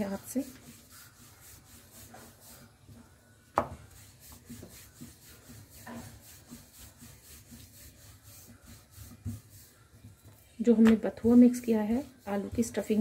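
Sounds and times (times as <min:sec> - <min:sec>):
rolling pin rubbing dough: 0:00.0 - 0:13.0.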